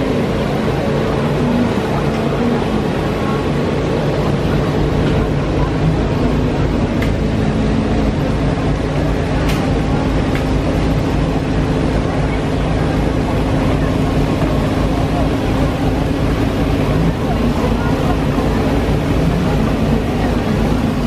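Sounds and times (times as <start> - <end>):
crowd murmur: 0.0 - 21.0
low hum and rumble: 0.0 - 21.0.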